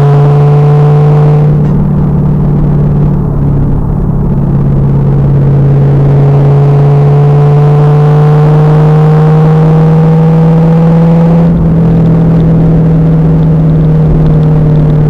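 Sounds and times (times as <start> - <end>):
car engine pulling under load: 0.0 - 15.0.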